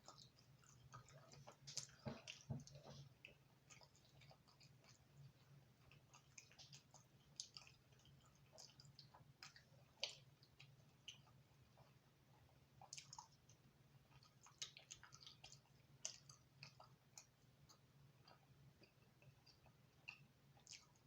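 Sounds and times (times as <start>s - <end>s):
faint low hum: 0.0s - 21.0s
person chewing crispy pizza: 0.0s - 21.0s.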